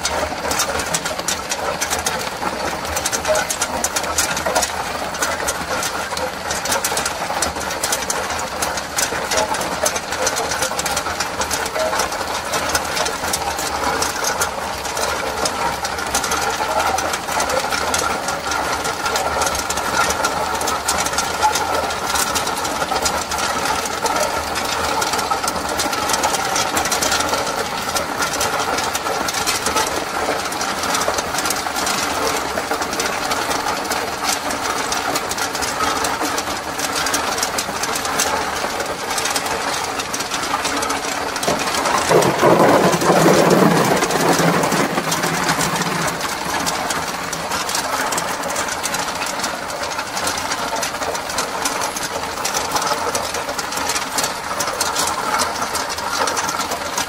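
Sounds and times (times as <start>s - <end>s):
ice tubes clattering into tub: 0.0s - 51.0s
ice machine running: 0.0s - 57.0s.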